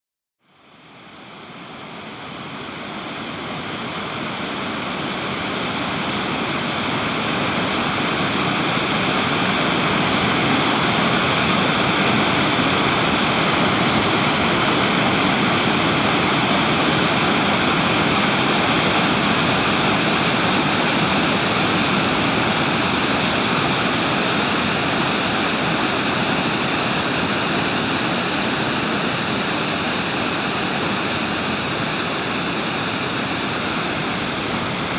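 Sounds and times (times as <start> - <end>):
dense steady rushing noise: 1.2 - 34.9.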